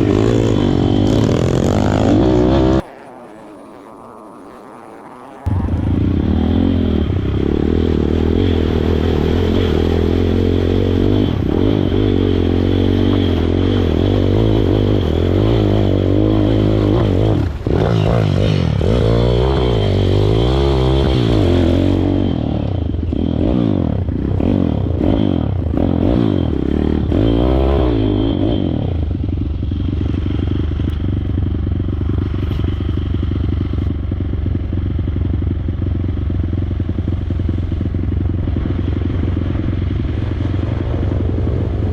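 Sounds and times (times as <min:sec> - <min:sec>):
small motorcycle engine revving: 0:00.0 - 0:41.9.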